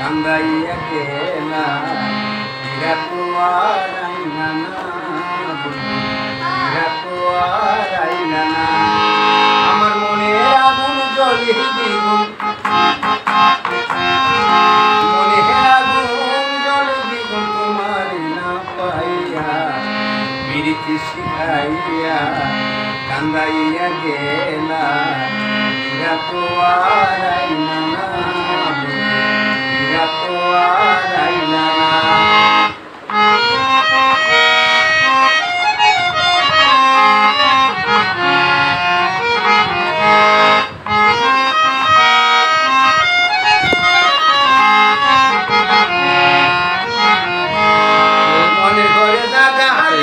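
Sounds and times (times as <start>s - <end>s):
man singing: 0.0s - 32.8s, 33.8s - 50.0s
harmonium melody with chords: 0.0s - 50.0s.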